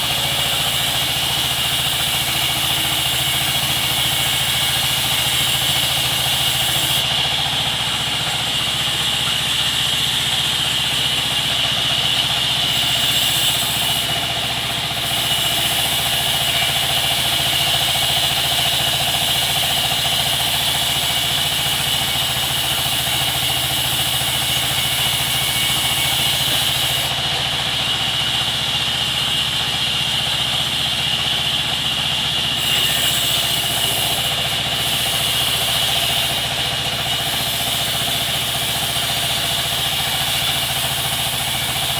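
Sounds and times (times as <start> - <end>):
sawmill machinery hum and whine: 0.0 - 41.9.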